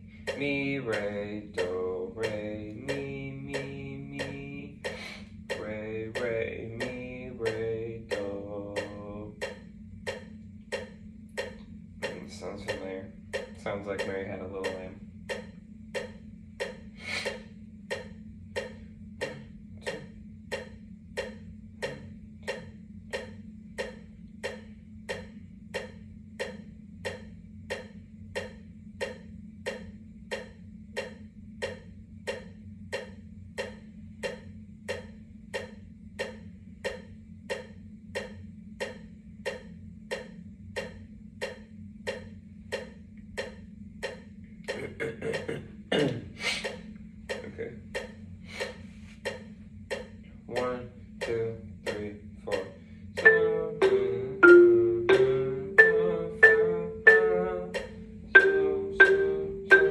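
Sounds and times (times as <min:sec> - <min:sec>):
low steady hum: 0:00.0 - 0:59.9
metronome ticking: 0:00.0 - 0:59.9.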